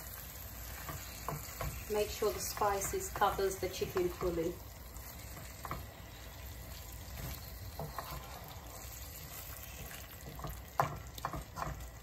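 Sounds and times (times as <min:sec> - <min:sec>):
chicken sizzling in a frying pan: 0:00.0 - 0:12.0
wooden spatula scraping a pan: 0:00.1 - 0:12.0.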